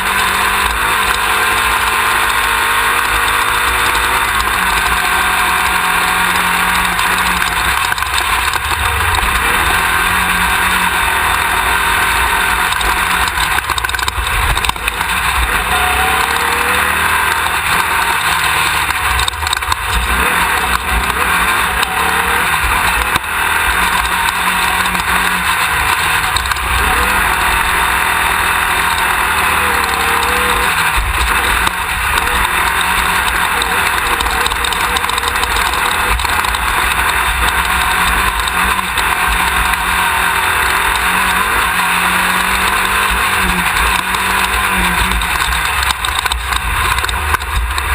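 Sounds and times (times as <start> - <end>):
buggy engine running hard: 0.0 - 47.9
loud rush of noise: 0.0 - 47.9.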